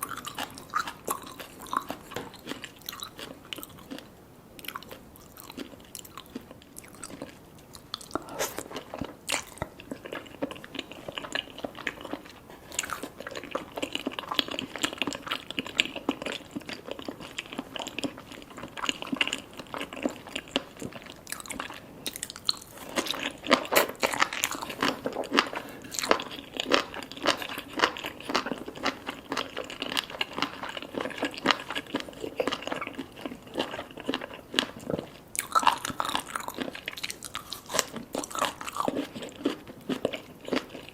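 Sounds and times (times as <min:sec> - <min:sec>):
wet crunchy chewing: 0:00.0 - 0:40.9.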